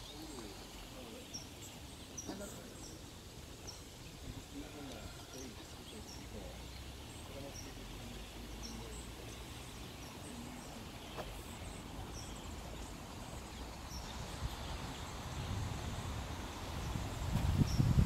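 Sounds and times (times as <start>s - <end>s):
small bird chirping: 0.0s - 18.0s
steady low hiss: 0.0s - 18.0s.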